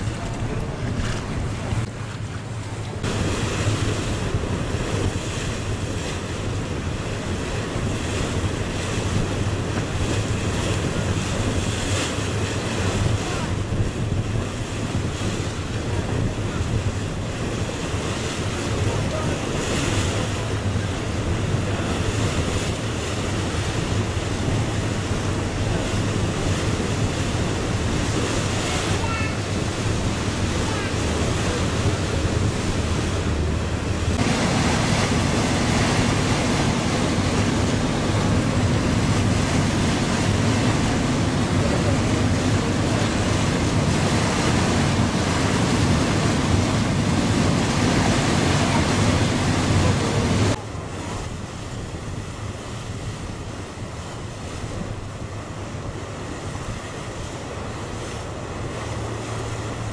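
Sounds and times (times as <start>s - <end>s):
boat engine low hum: 0.0s - 59.9s
water rushing past hull: 0.0s - 59.9s
wind buffeting microphone: 0.0s - 59.9s.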